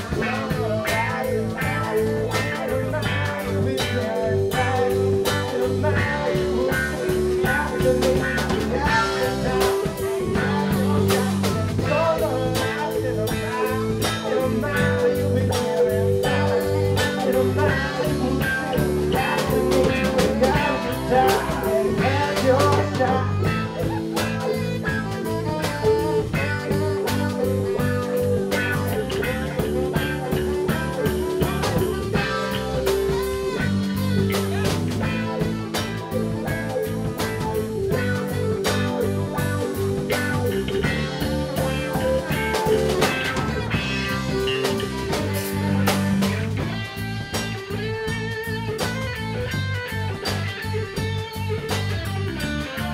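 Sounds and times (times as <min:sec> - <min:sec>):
drum kit: 0:00.0 - 0:52.9
electric bass: 0:00.0 - 0:52.9
electric guitar: 0:00.0 - 0:52.9.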